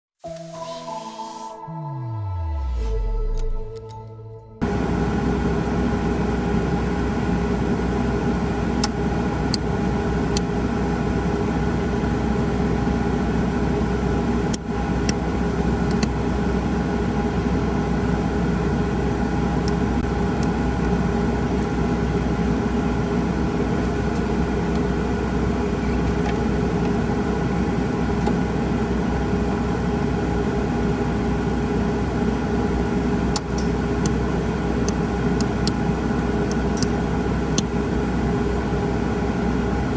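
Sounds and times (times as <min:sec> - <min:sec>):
machine hum with held tones: 0:00.2 - 0:39.9.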